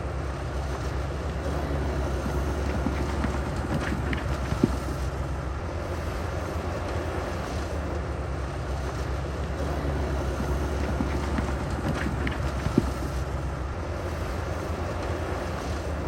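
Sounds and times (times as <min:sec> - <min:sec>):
diesel machine rumbling: 0:00.0 - 0:16.0.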